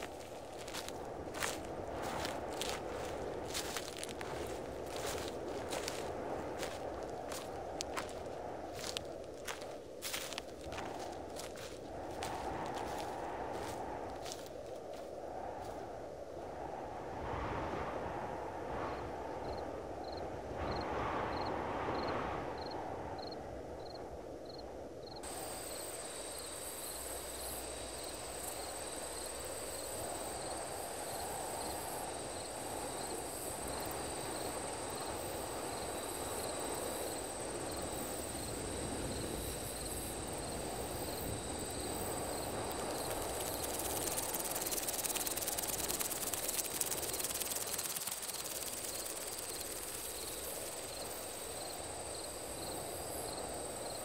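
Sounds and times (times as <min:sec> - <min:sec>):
crackling hiss: 0:00.0 - 0:16.6, 0:25.0 - 0:54.0
crickets chirping: 0:00.0 - 0:54.0
rural night noise: 0:00.0 - 0:54.0.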